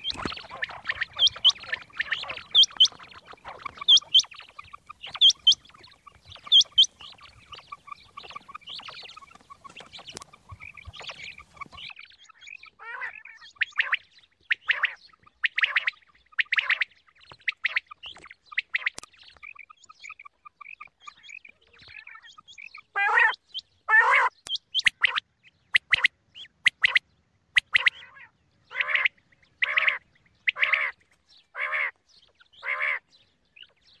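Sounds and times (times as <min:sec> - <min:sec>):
quail calling: 0:00.0 - 0:27.0, 0:27.6 - 0:34.0.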